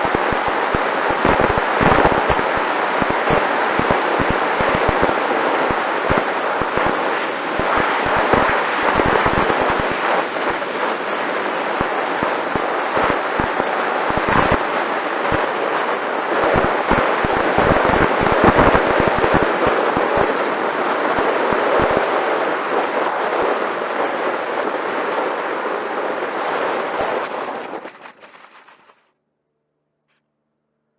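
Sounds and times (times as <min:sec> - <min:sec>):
wind buffeting microphone: 0:00.0 - 0:28.6.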